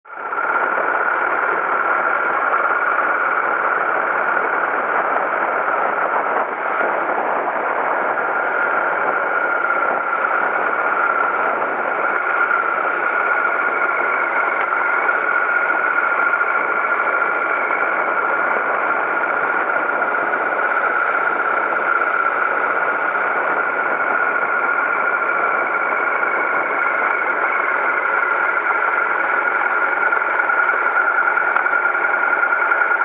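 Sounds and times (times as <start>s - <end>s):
engine drone with high whine: 0.1s - 33.0s.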